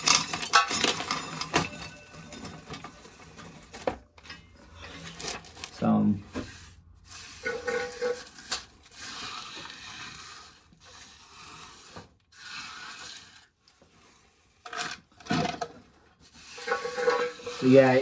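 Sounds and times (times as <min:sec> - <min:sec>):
rustling scraping noises: 0:00.0 - 0:18.0.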